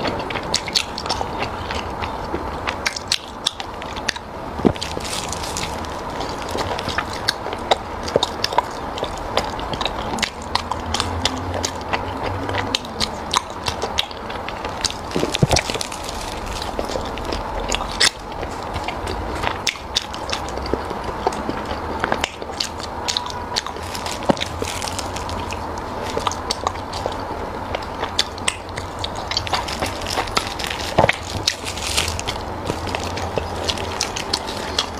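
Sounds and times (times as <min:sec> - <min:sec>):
person chewing with mouth clicks: 0:00.0 - 0:34.9.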